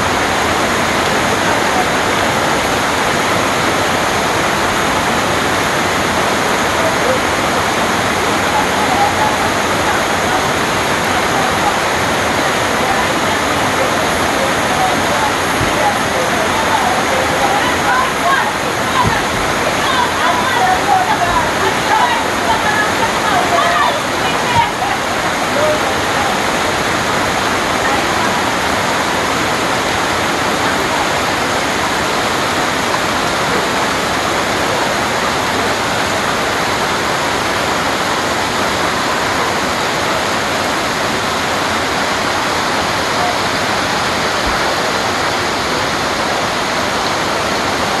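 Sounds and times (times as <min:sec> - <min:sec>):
heavy rain on foliage: 0:00.0 - 0:48.0.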